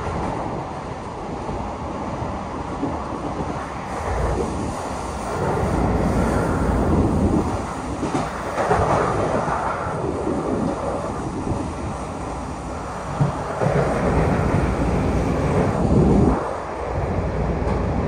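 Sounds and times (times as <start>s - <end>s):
subway wheels rumbling on rail: 0.0s - 18.0s.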